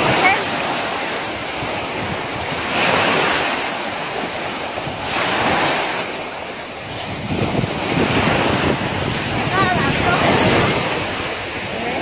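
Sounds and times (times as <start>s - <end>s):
sea waves washing onto shore: 0.0s - 12.0s
wind rumbling on microphone: 0.0s - 12.0s.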